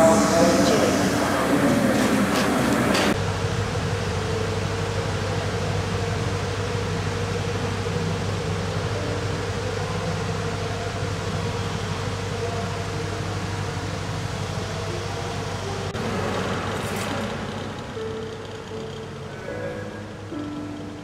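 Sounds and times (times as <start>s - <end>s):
low droning tone: 0.0s - 21.0s
machinery hum and hiss: 0.0s - 21.0s.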